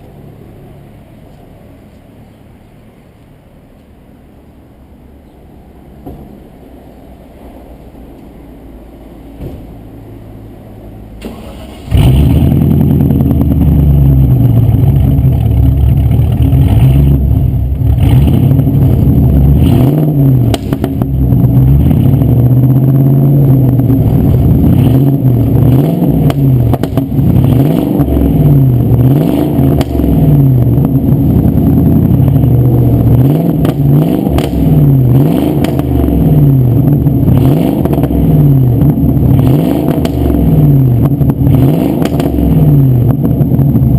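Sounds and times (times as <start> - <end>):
car engine revving: 6.0 - 43.9.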